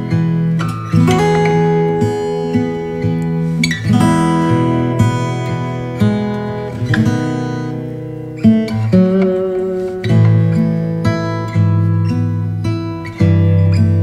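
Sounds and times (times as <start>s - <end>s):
acoustic guitar plucked chords: 0.0s - 14.0s.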